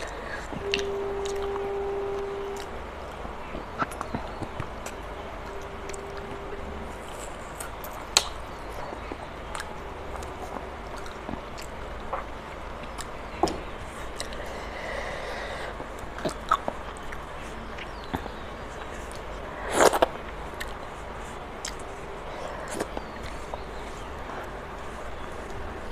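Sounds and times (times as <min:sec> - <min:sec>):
chewing and sucking on chicken: 0:03.5 - 0:25.9.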